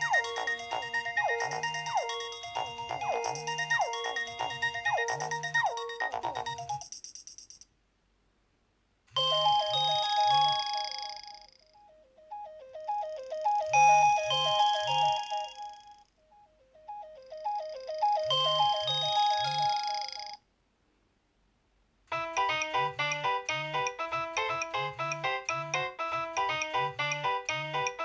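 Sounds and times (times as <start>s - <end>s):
synthesized ringtone melody: 0.0s - 6.9s, 9.2s - 20.4s, 22.2s - 28.0s.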